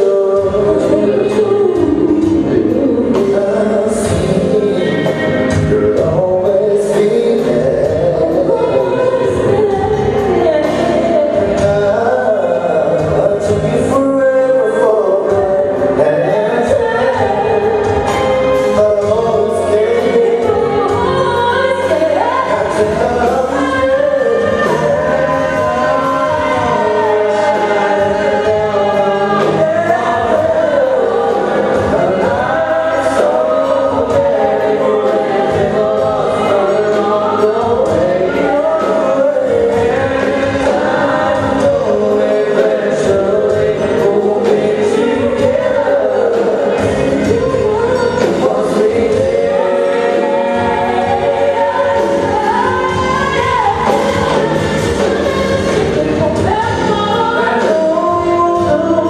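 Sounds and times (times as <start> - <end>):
live band with vocals: 0.0 - 59.0.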